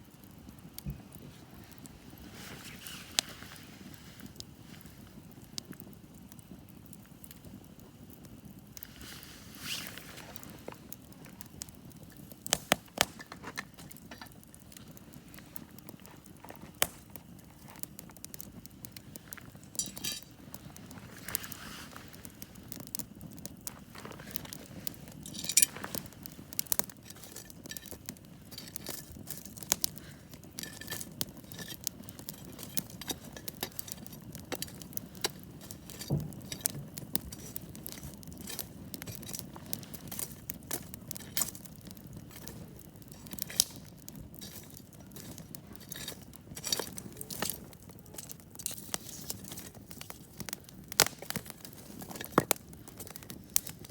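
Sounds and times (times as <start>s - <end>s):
campfire crackling: 0.0s - 53.9s
low rumble of fire: 0.0s - 53.9s
sharp pops of fire: 0.0s - 53.9s.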